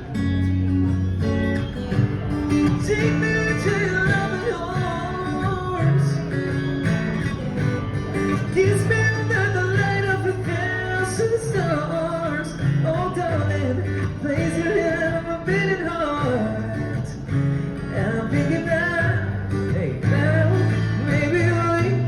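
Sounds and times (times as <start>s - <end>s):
guitar with bass notes: 0.0s - 22.0s.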